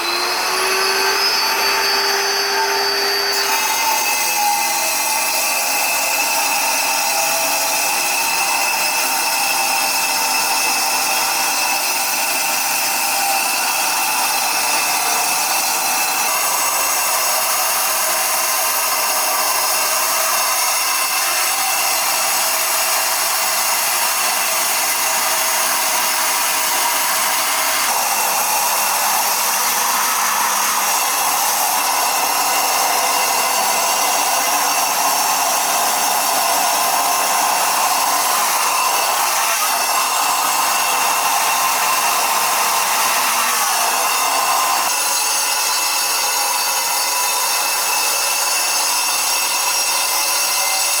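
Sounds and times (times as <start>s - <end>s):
power tool grinding stone: 0.0s - 51.0s.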